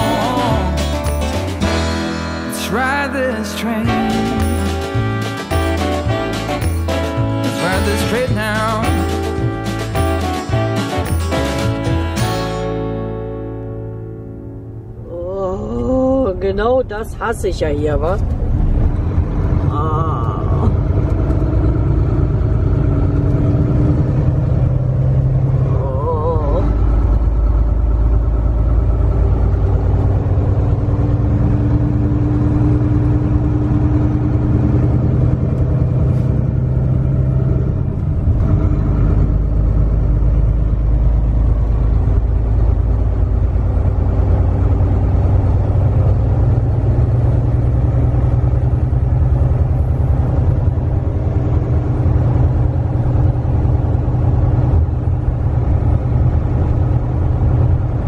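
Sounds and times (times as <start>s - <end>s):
diesel truck engine rumbling: 0.0s - 58.0s
road noise: 0.0s - 58.0s.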